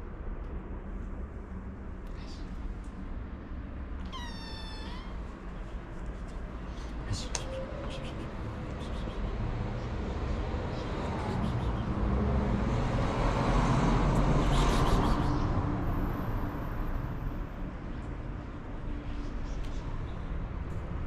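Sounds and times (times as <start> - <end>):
road vehicle passing: 3.7 - 21.0.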